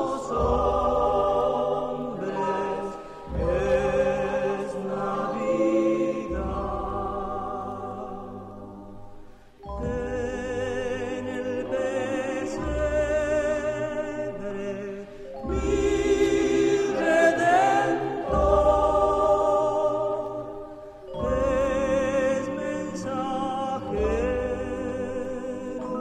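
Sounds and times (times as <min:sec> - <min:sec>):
low sustained accompaniment: 0:00.0 - 0:26.0
voices singing with vibrato: 0:00.0 - 0:26.0.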